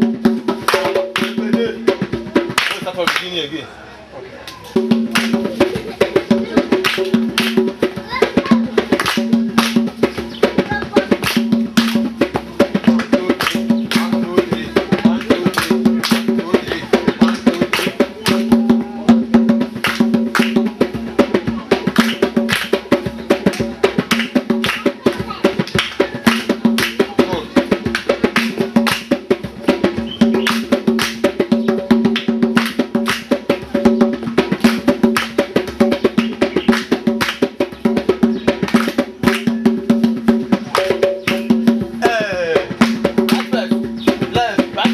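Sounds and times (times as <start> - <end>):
drum and wood-block strikes: 0.0 - 3.5, 4.6 - 44.9.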